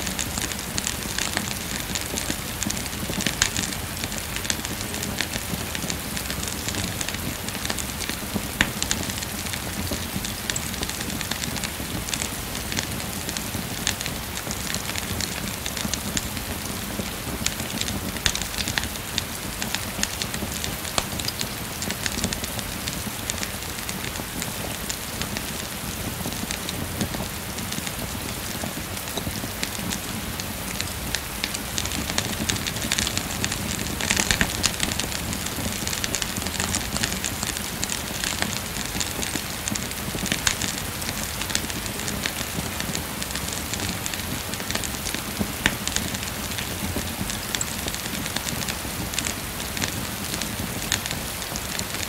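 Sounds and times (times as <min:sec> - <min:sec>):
steady rain hiss: 0:00.0 - 0:52.0
wood fire crackling: 0:00.0 - 0:52.0
sharp pops from burning logs: 0:00.1 - 0:52.0.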